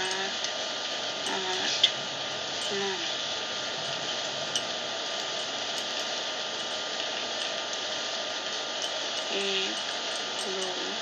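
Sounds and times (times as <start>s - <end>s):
continuous hiss with faint hum: 0.0s - 11.0s.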